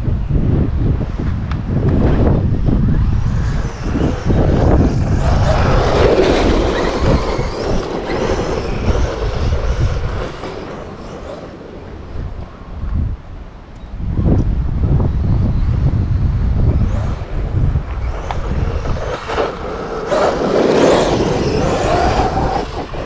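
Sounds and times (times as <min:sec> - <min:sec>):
wind buffeting microphone: 0:00.0 - 0:23.0
rc truck rattling over dirt: 0:01.9 - 0:12.7, 0:15.2 - 0:23.0.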